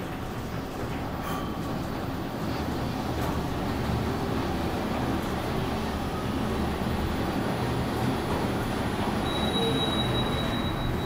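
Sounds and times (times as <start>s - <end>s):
elevator car rumble: 0.0s - 11.0s.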